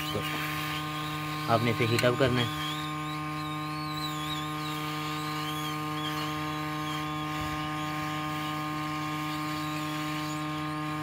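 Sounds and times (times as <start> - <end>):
hot air gun humming: 0.0 - 11.0.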